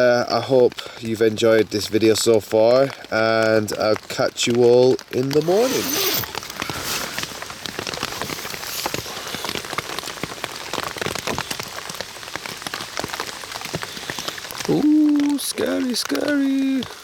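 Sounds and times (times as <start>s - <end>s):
heavy rain on tent: 0.0s - 5.0s, 5.8s - 17.0s.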